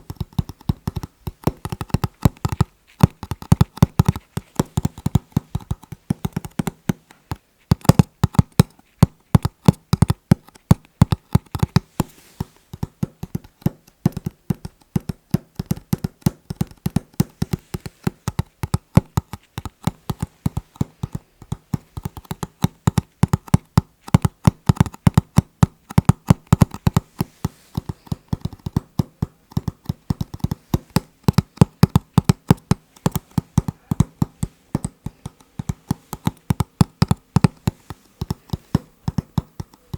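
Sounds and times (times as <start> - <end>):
fingertips tapping hard objects: 0.0 - 39.9.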